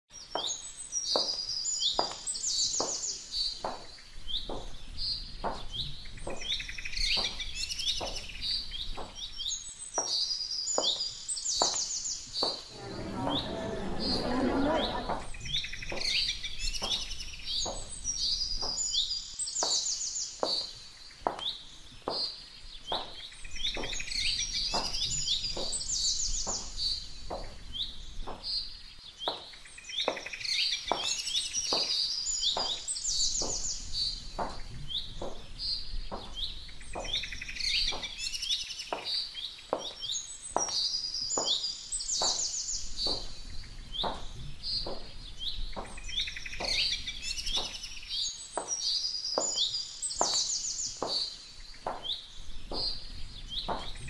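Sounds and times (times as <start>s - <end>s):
birds chirping: 0.1s - 54.0s.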